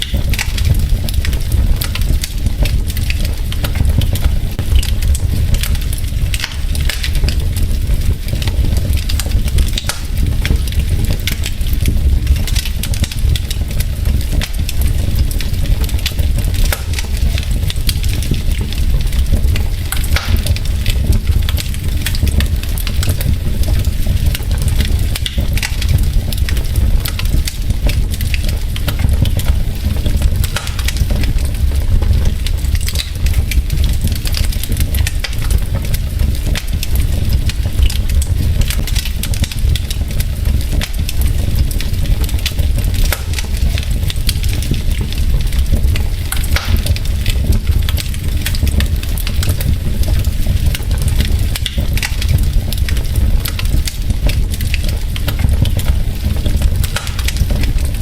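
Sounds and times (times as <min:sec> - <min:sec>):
wood logs crackling in fireplace: 0:00.0 - 0:58.0.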